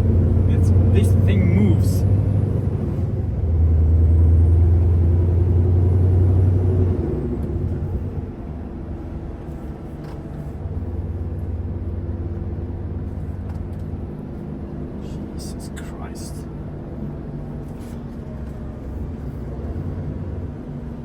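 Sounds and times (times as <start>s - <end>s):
diesel truck engine drone: 0.0s - 21.0s.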